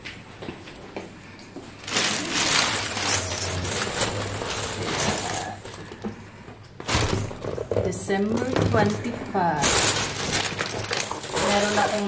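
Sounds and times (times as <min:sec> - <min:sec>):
plastic bag rustling: 0:01.7 - 0:12.0.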